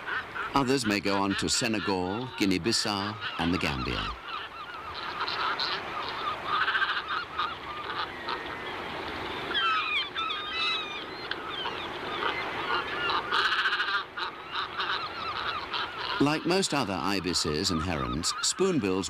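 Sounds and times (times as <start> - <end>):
waterbirds honking and chattering: 0.0 - 19.0.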